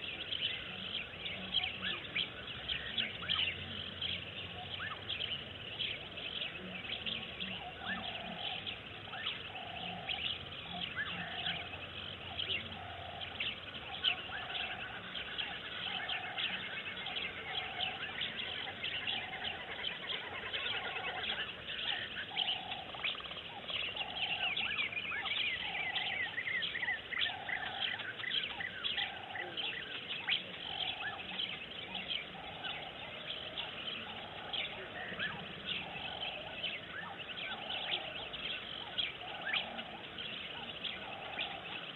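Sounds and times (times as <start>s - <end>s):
birds chirping: 0.0s - 41.9s
low bird call: 0.0s - 41.9s.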